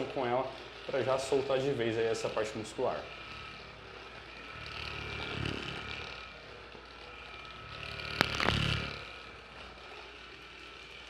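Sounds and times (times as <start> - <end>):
massager motor hum and whine: 0.0 - 11.0.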